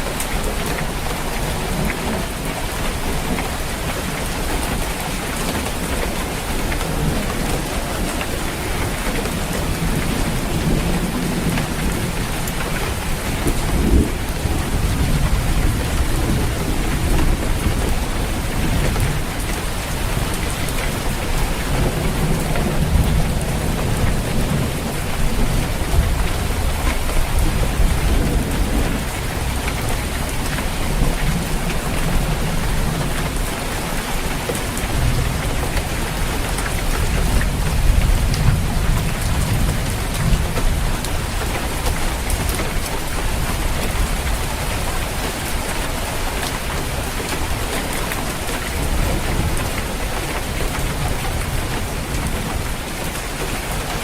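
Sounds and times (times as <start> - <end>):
heavy rain drumming on a roof: 0.0 - 54.0
low rolling thunder: 4.5 - 54.0.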